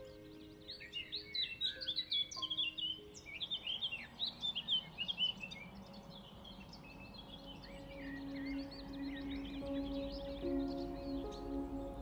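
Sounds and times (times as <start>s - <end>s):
soft background music: 0.0s - 12.0s
songbird chirping: 0.0s - 12.0s.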